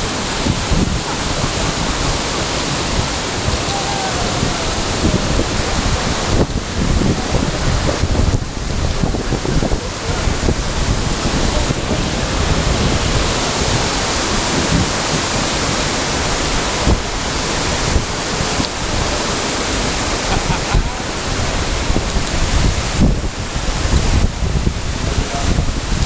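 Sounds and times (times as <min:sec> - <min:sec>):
waterfall rushing: 0:00.0 - 0:26.0
wind buffeting microphone: 0:00.0 - 0:26.0.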